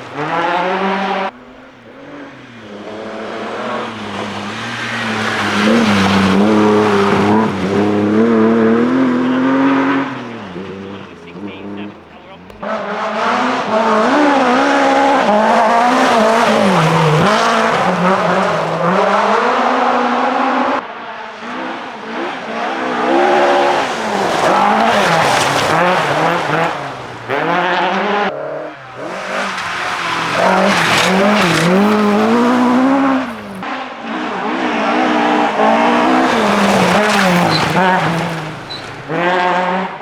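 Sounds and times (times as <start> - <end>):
rally car engines revving hard: 0.0 - 40.0.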